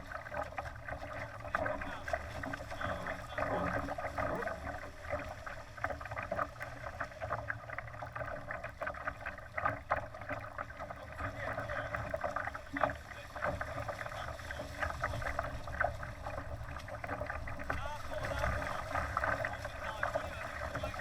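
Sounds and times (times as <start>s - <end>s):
water splashing against a hull: 0.0s - 21.0s.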